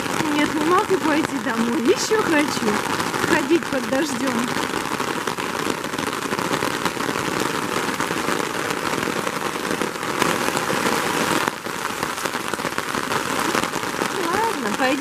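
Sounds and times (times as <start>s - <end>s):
rain falling on plants: 0.0s - 15.0s.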